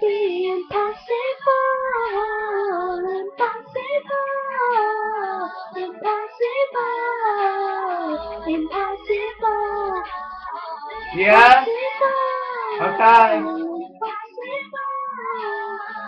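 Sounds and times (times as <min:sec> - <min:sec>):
boy singing a pop ballad: 0:00.0 - 0:16.0.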